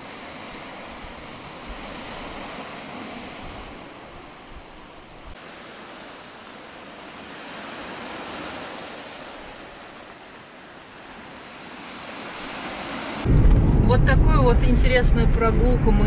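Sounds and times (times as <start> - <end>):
sea surf washing onto beach: 0.0 - 14.8.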